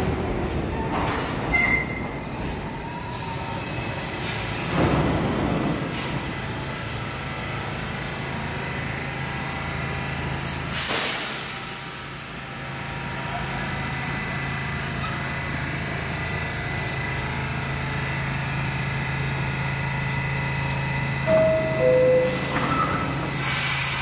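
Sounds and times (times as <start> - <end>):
low hum of standing train: 0.0 - 24.0
subway train rumble: 0.0 - 24.0.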